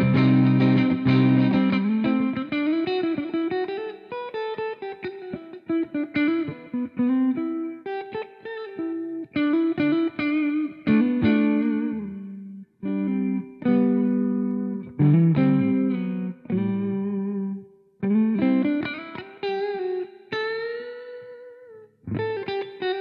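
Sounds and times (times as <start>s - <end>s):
electric guitar licks and chords: 0.0s - 23.0s.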